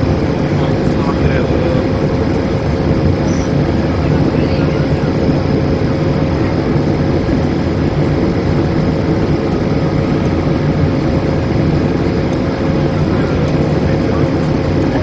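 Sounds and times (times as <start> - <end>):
airliner cabin airflow and engines: 0.0 - 15.0
steady humming tone: 0.0 - 15.0.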